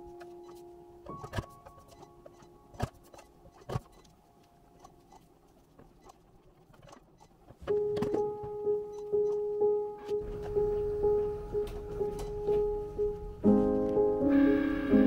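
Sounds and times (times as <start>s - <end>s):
background music: 0.0s - 5.5s, 7.6s - 15.0s.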